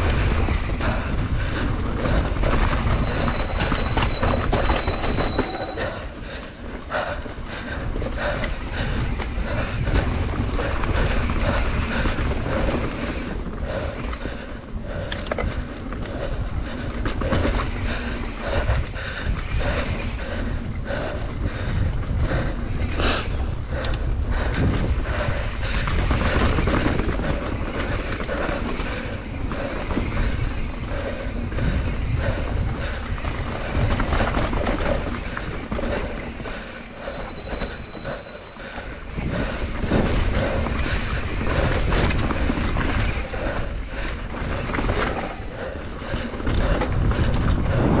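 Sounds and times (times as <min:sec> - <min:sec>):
bike tyres on dirt: 0:00.0 - 0:18.8, 0:19.4 - 0:48.0
bike rattling over bumps: 0:00.0 - 0:48.0
wind rumbling on microphone: 0:00.0 - 0:48.0.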